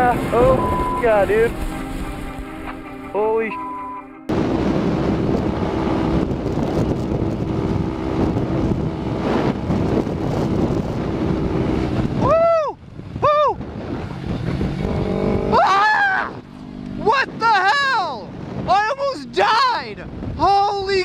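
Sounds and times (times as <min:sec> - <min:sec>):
wind rushing over microphone: 0:00.0 - 0:02.7, 0:04.3 - 0:21.0
motorcycle engine humming: 0:00.0 - 0:20.9.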